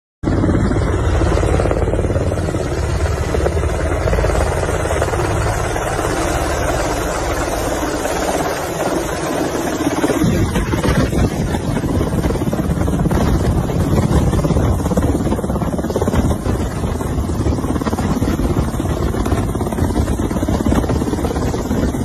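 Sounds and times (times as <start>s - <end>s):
helicopter hovering low: 0.2s - 22.0s.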